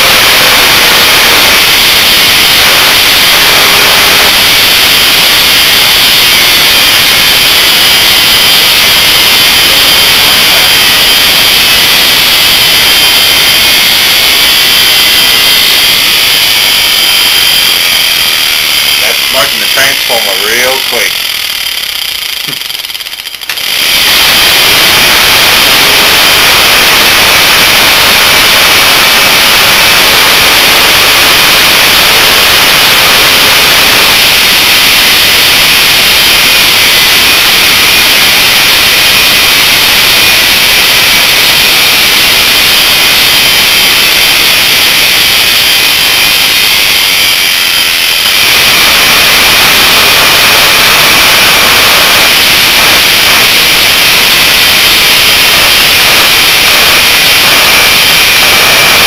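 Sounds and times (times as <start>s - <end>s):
electric motor running with loud hiss: 0.0s - 59.0s.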